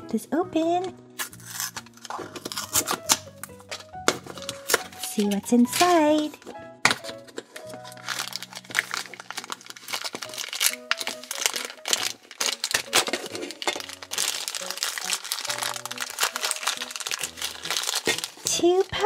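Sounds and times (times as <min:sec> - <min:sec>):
background music: 0:00.0 - 0:19.0
plastic wrapper crinkling: 0:01.2 - 0:19.0.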